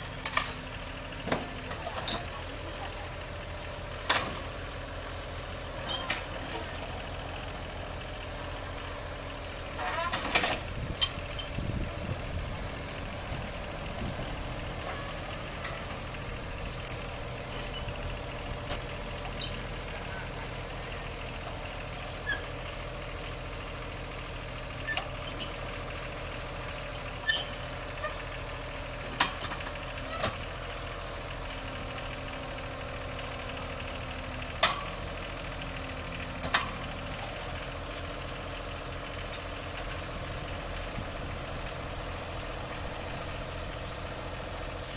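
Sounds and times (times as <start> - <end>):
backhoe diesel engine at low revs: 0.0 - 44.9.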